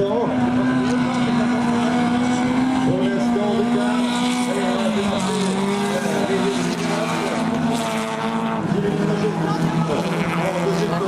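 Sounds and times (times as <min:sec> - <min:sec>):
car engines running hard: 0:00.0 - 0:11.0.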